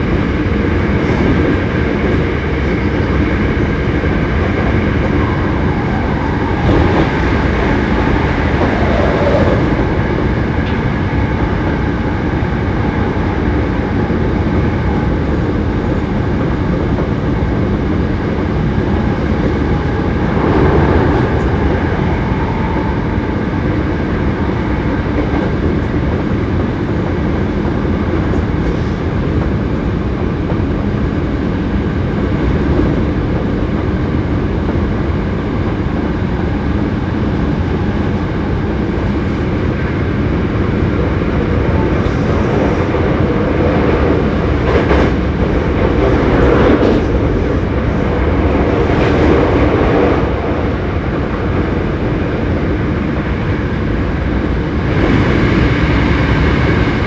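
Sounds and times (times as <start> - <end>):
train wheels rumbling on rail: 0.0 - 57.0
train whine: 0.0 - 57.0.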